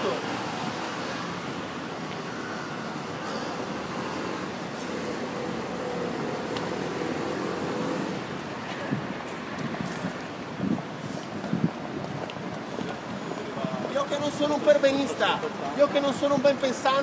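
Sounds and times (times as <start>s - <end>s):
hum of road traffic: 0.0s - 17.0s.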